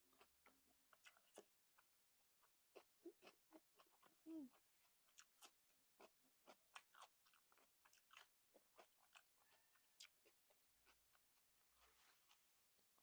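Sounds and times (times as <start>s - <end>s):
person chewing with mouth clicks: 0.1s - 13.0s.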